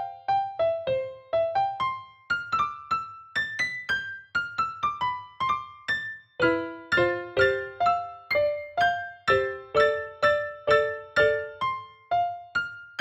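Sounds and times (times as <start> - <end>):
piano notes: 0.0 - 13.0.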